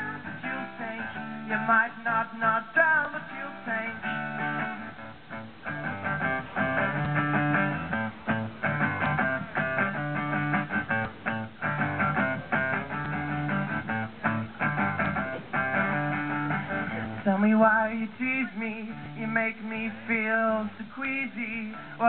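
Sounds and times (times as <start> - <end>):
guitar strumming chords: 0.0 - 22.0.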